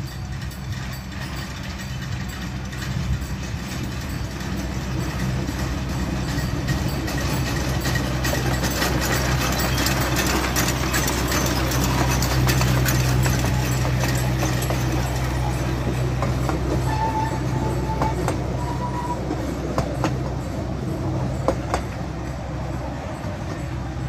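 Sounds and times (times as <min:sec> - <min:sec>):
locomotive engine droning: 0:00.0 - 0:24.0
wheels clattering over rails: 0:00.0 - 0:24.0.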